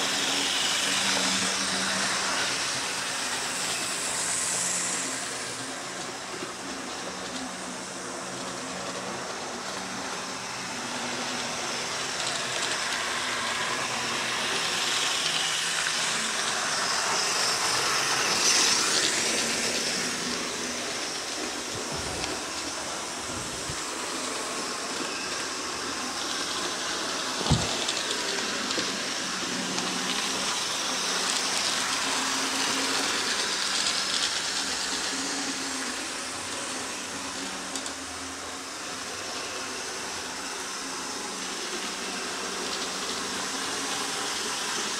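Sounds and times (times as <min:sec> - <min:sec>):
model trains whirring on rails: 0:00.0 - 0:44.9.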